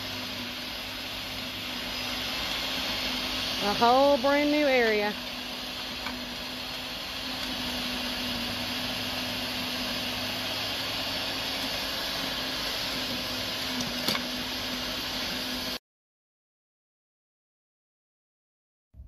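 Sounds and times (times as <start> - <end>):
electric tiller churning soil: 0.0 - 15.8.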